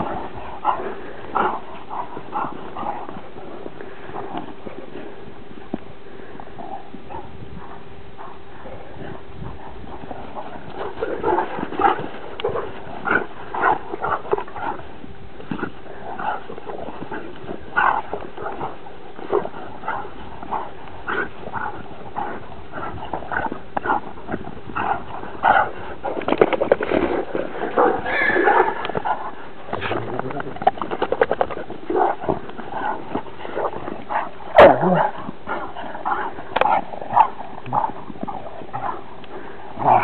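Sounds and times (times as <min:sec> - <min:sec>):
dogs play-fighting vocalising: 0:00.0 - 0:04.6, 0:07.1 - 0:40.0.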